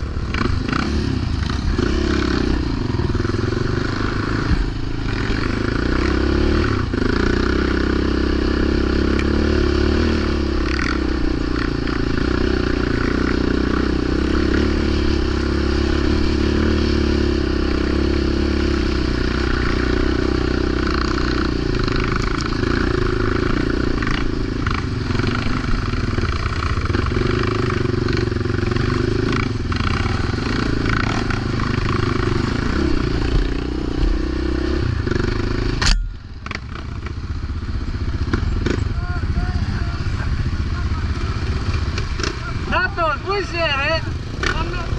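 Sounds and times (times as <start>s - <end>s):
quad engine running: 0.0s - 44.9s.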